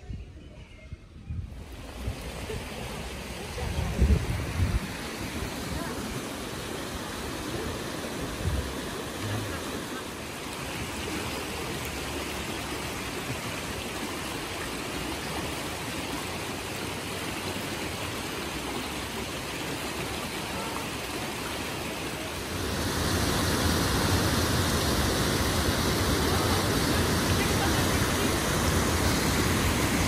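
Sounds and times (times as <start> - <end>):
stream rushing over stones: 1.5 - 30.0
small waterfalls cascading: 1.6 - 30.0.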